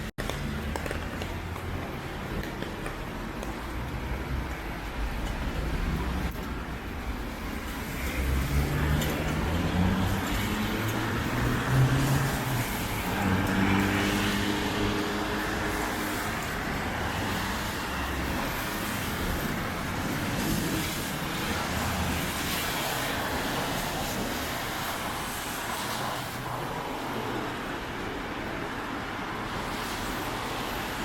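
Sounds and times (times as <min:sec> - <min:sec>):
cars passing: 0:00.0 - 0:31.0
wet tyres hissing: 0:03.7 - 0:27.6, 0:28.6 - 0:31.0
heavy rain hissing: 0:05.4 - 0:31.0.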